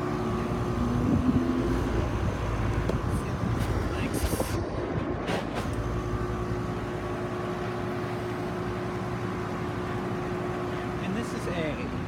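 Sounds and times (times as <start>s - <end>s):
air conditioner fan and hum: 0.0s - 12.0s.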